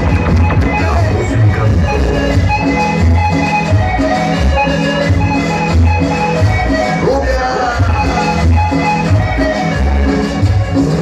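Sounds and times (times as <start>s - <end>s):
latin dance music over sound system: 0.0s - 11.0s.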